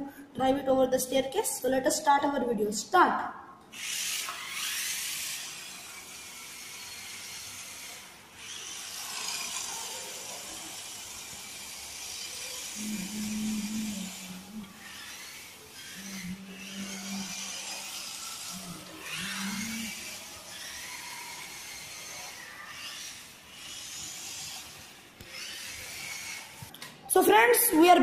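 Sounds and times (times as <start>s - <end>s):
small electric motors whining: 3.7s - 26.7s.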